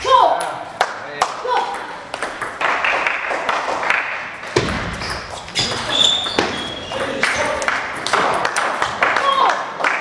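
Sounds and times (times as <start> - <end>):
sports hall background noise: 0.0 - 10.0.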